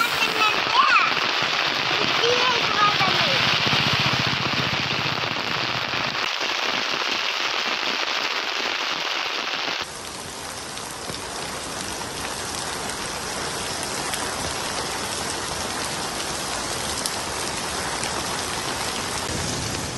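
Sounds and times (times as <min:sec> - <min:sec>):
heavy rain: 0:00.0 - 0:19.9.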